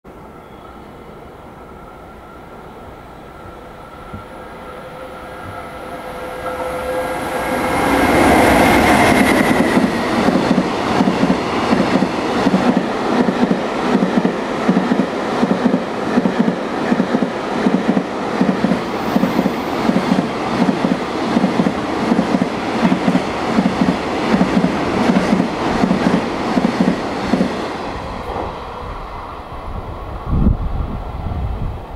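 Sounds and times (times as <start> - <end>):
train passing loud rush: 0.1 - 31.9.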